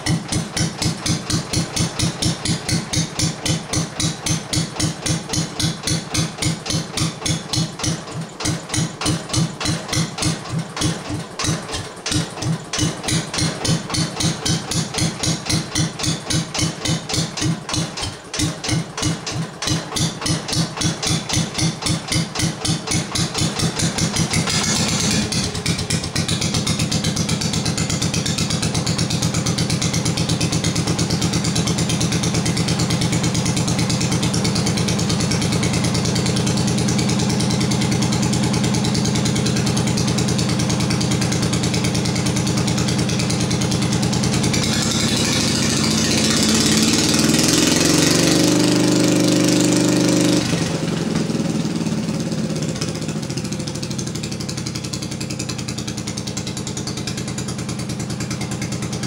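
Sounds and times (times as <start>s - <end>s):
garden tractor engine idling: 0.0s - 59.0s.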